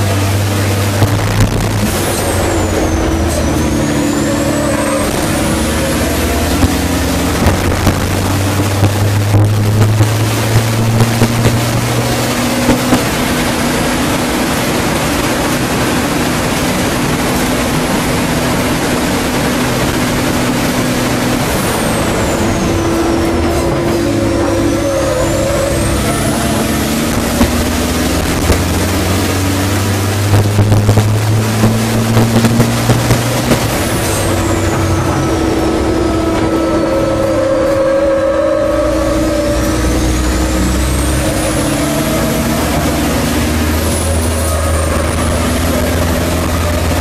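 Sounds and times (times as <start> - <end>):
diesel truck engine running hard: 0.0 - 47.0
wind and road noise: 0.0 - 47.0
turbo whistle: 0.6 - 47.0.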